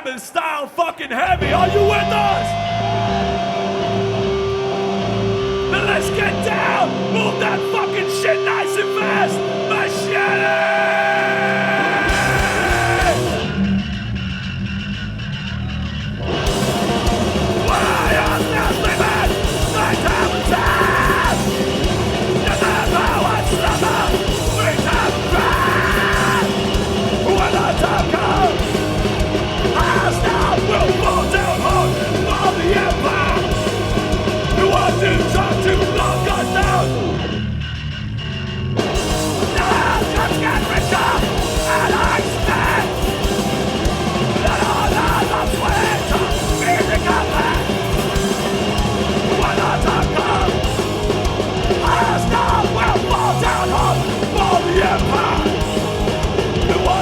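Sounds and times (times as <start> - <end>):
yelled vocals: 0.0 - 14.1, 15.2 - 37.6, 38.8 - 57.0
drums: 0.0 - 57.0
distorted guitars: 1.2 - 57.0.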